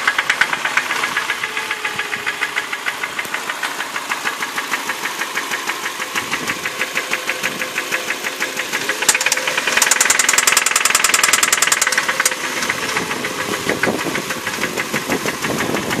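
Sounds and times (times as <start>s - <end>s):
car engine running: 0.0s - 16.0s
rapid engine clicking: 0.0s - 16.0s.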